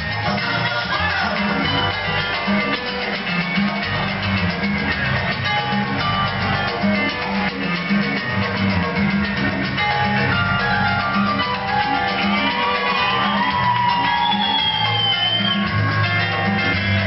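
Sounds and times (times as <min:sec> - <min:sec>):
up-tempo dance music: 0:00.0 - 0:17.0.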